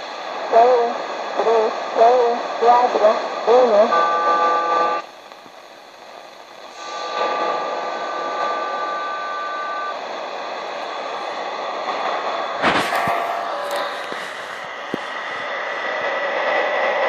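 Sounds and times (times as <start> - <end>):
steady radio tone: 0.0 - 5.1, 5.7 - 17.0
loud radio crackle: 0.0 - 17.0
radio static hissing: 0.0 - 17.0.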